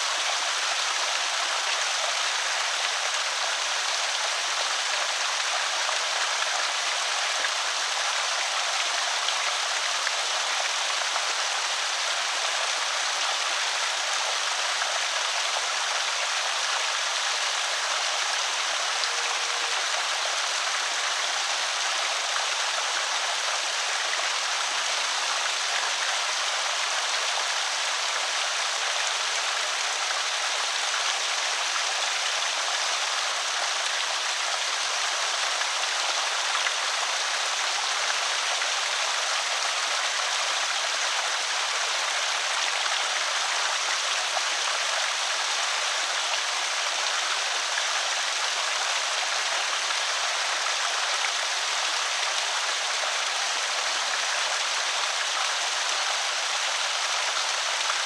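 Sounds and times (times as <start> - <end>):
water pouring over spillway: 0.0 - 58.0.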